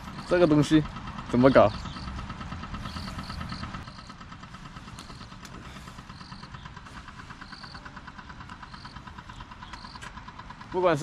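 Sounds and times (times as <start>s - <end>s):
distant engine rumbling: 0.0s - 11.0s.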